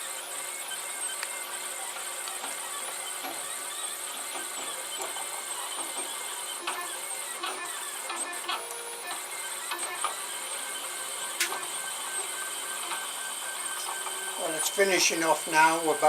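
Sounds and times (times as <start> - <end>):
three-d printer motors whining: 0.0 - 16.0.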